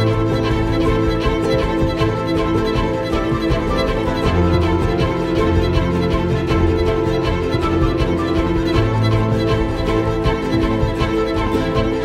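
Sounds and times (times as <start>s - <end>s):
sustained chords: 0.0s - 12.0s.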